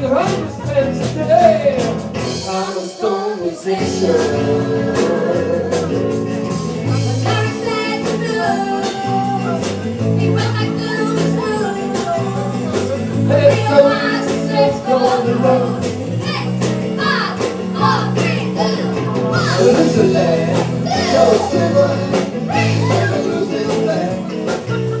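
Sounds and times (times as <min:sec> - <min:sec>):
acoustic guitar: 0:00.0 - 0:25.0
regular drum beat: 0:00.0 - 0:25.0
women singing: 0:02.7 - 0:06.1, 0:06.9 - 0:12.6, 0:13.3 - 0:24.3
steady low bass notes: 0:03.6 - 0:25.0.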